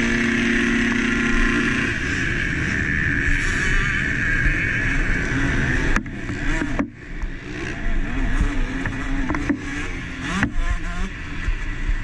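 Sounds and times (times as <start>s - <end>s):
motocross bike engine running hard: 0.0s - 12.0s.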